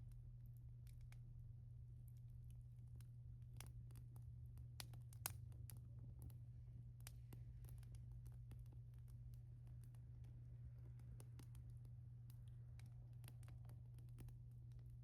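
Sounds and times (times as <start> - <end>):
faint low hum: 0.0 - 15.0
wood fire crackling: 0.0 - 15.0.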